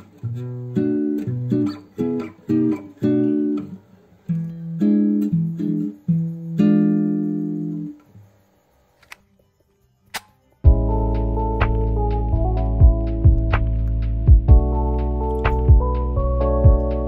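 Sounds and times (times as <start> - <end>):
plucked guitar music: 0.0 - 8.1, 10.1 - 17.0.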